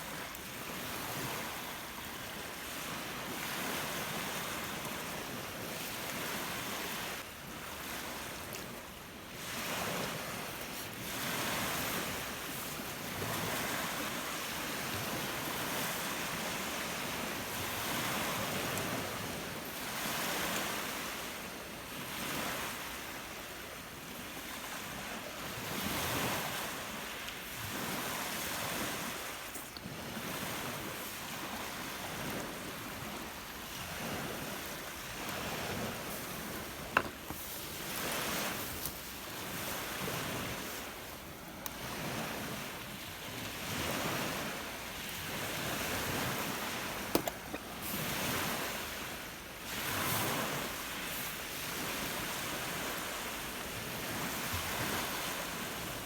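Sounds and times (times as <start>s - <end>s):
waves breaking on shore: 0.0s - 56.0s
wind: 0.0s - 56.0s.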